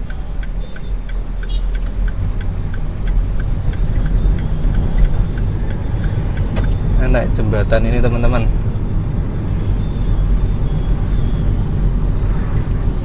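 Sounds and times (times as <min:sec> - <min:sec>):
car engine and road rumble: 0:00.0 - 0:13.0
turn signal ticking: 0:00.0 - 0:13.0.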